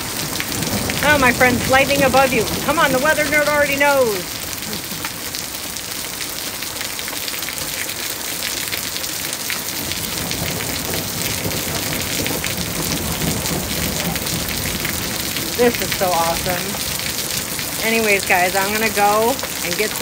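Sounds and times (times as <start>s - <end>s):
rain spattering on surfaces: 0.0s - 20.0s.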